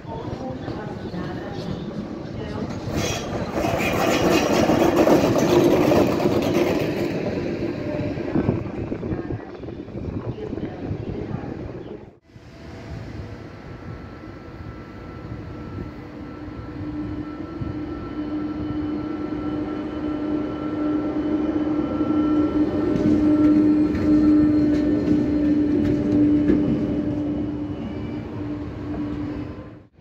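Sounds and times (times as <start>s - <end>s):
electric locomotive humming: 0.0s - 30.0s.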